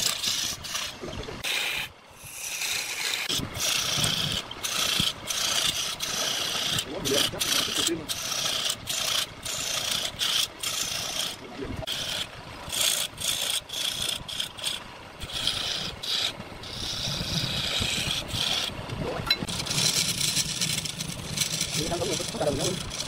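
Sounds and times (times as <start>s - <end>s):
chisel scraping spinning wood: 0.0s - 23.0s
lathe electric motor: 2.6s - 18.7s, 19.5s - 23.0s.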